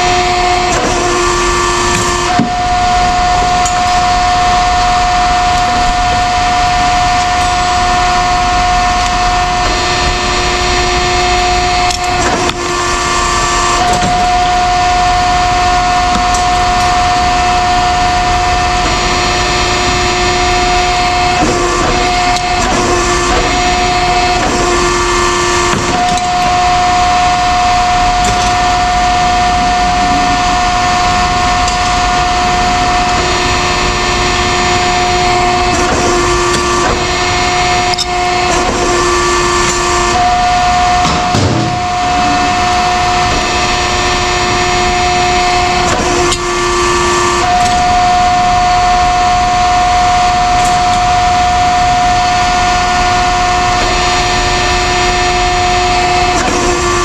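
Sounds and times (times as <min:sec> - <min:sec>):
machine whining: 0:00.0 - 0:57.0.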